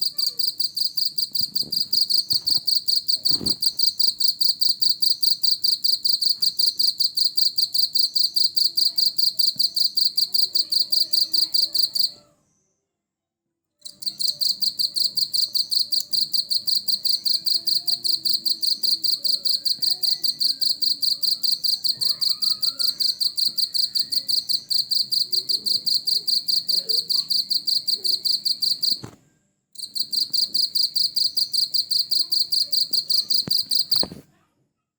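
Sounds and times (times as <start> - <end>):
cricket chirping: 0.0 - 12.1, 13.8 - 29.0, 29.8 - 34.1.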